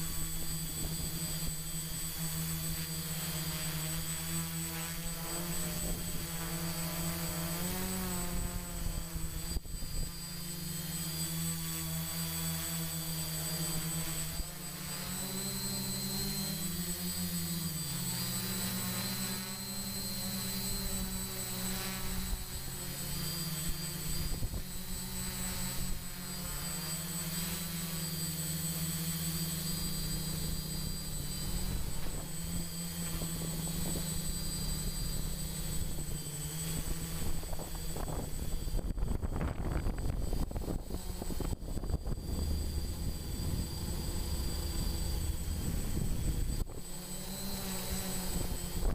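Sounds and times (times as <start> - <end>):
drone motors humming: 0.0 - 48.9.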